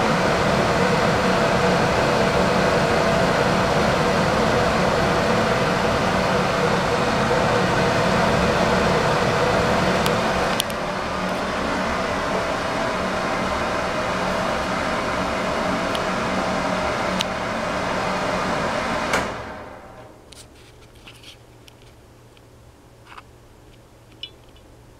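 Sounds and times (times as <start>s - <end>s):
exhaust fan humming: 0.0s - 24.9s.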